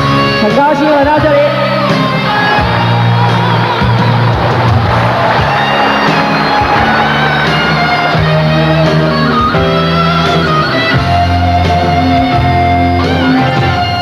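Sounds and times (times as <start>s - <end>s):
live pop ballad band: 0.0s - 14.0s
strummed guitar: 0.0s - 14.0s.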